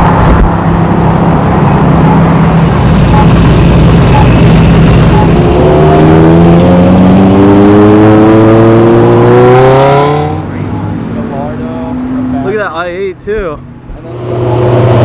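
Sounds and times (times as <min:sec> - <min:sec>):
car engine accelerating: 0:00.0 - 0:12.6, 0:13.6 - 0:15.0.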